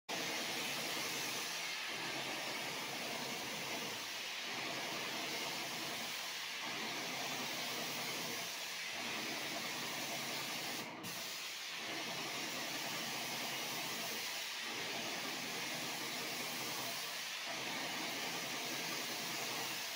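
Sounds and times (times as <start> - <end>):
paint sprayer hissing: 0.1 - 19.9.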